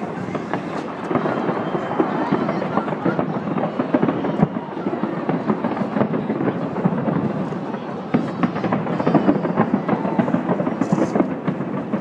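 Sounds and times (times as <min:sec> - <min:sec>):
fireworks bangs: 0:00.0 - 0:12.0
fireworks crackling and popping: 0:00.0 - 0:12.0.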